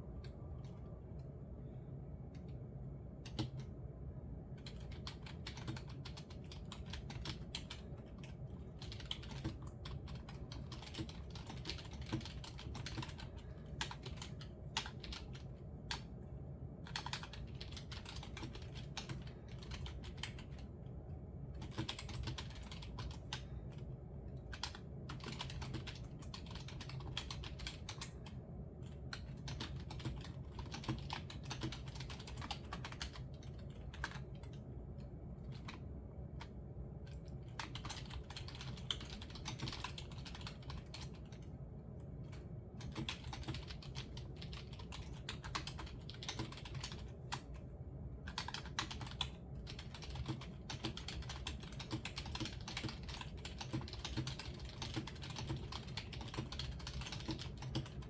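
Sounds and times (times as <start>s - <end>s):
steady low hum: 0.0s - 58.0s
typing on computer keyboard: 3.2s - 3.8s, 4.5s - 16.1s, 16.8s - 20.7s, 21.5s - 34.7s, 35.4s - 41.5s, 42.2s - 58.0s.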